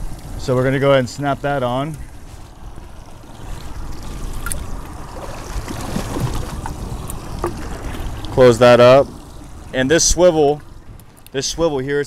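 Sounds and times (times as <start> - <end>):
sea water washing: 0.0 - 12.0
wind: 0.0 - 12.0.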